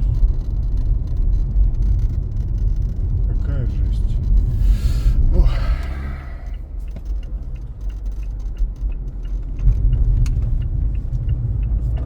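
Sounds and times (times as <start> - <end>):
road rumble inside car cabin: 0.0 - 12.0
windshield creak: 0.0 - 12.0.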